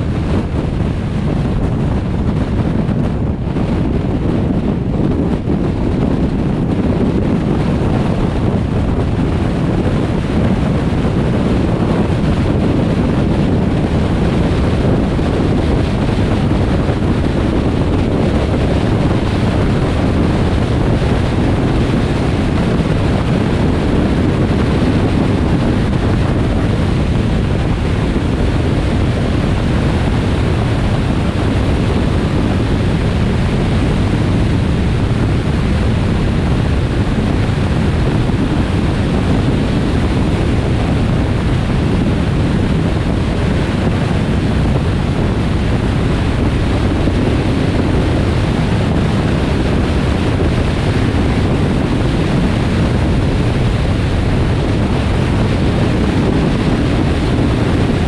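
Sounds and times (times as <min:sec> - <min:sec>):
car road noise: 0:00.0 - 0:56.3
wind rushing over microphone: 0:00.0 - 0:58.0.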